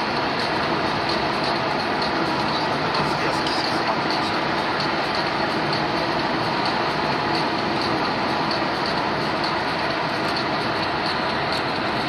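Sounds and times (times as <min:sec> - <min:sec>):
road tyre and wind noise: 0:00.0 - 0:12.0.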